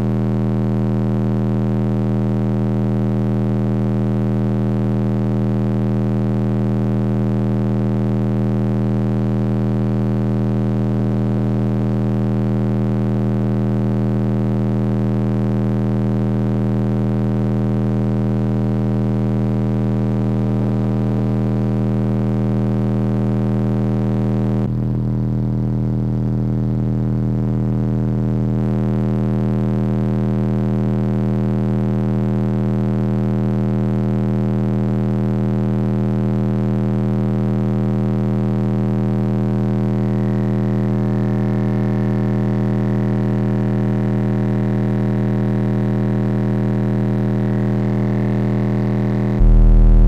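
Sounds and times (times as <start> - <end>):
subwoofer low test tone hum: 0.0 - 44.5, 46.9 - 50.0.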